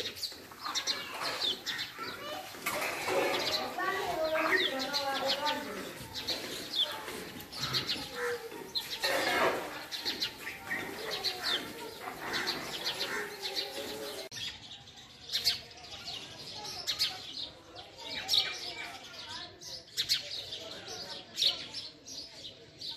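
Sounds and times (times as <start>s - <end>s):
sparrows chirping: 0.0s - 22.9s.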